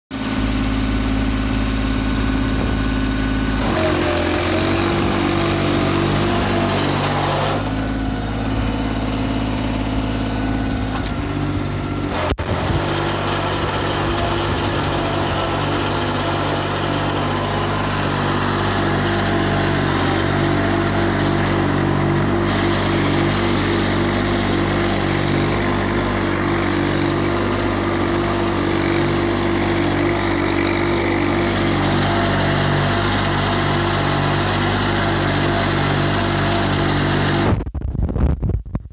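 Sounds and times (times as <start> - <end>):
tractor diesel engine running: 0.1 - 37.8.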